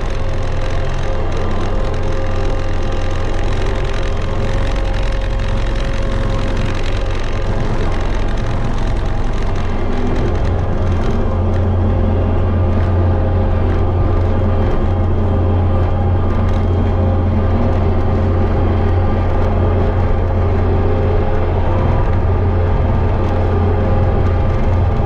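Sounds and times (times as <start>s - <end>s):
diesel engine loud low drone: 0.0s - 25.0s.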